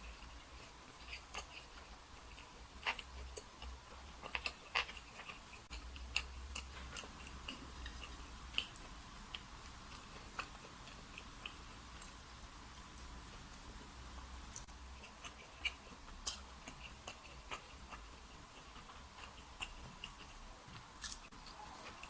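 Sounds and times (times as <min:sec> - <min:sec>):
quiet chewing: 0:00.0 - 0:22.0.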